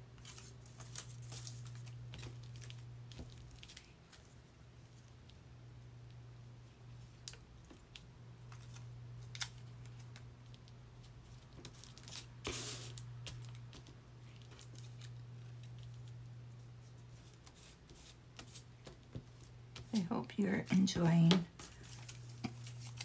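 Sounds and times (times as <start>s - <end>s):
low steady hum: 0.0s - 23.0s
paper crinkle: 0.2s - 5.1s, 8.5s - 20.2s, 20.8s - 23.0s.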